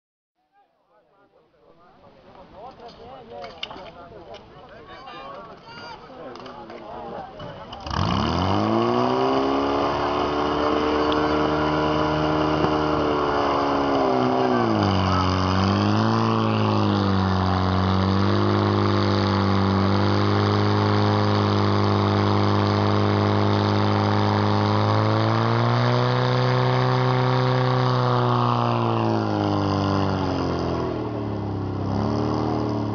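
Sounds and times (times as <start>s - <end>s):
fire pump engine running: 6.3s - 32.9s.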